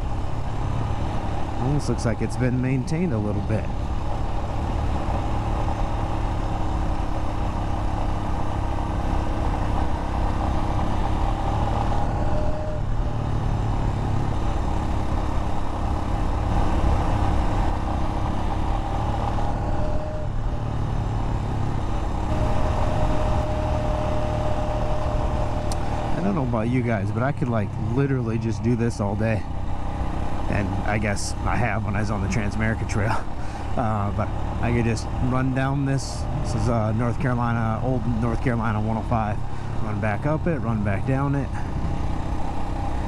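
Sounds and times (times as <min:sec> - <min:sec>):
low rumble: 0:00.0 - 0:40.2
motorcycle engine running: 0:00.0 - 0:43.0.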